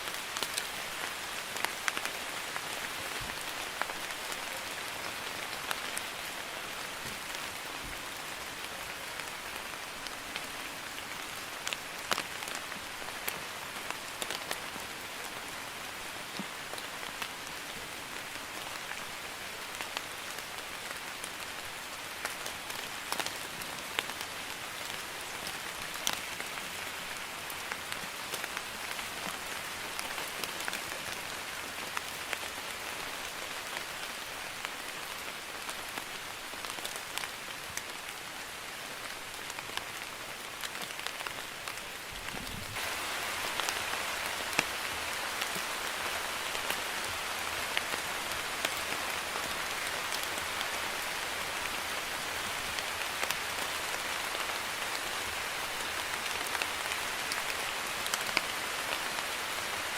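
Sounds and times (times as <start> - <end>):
light rain hissing: 0.0 - 59.9.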